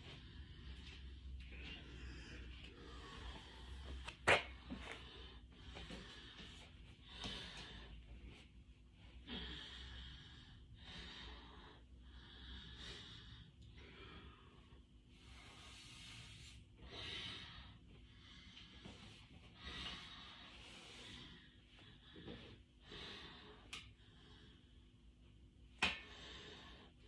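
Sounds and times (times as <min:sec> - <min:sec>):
person breathing heavily: 0:00.0 - 0:27.0.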